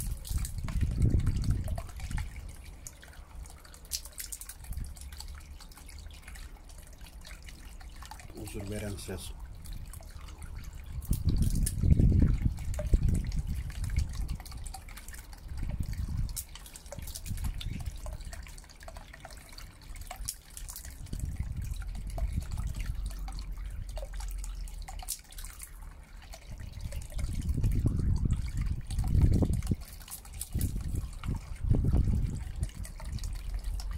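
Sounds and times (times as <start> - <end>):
fountain pump water splashing: 0.0 - 33.9.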